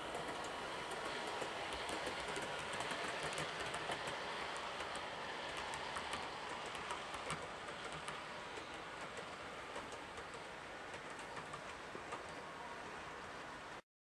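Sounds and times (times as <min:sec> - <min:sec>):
quick light clicks of wheels: 0:00.0 - 0:12.5
model train wheels whirring rumble: 0:00.0 - 0:13.8.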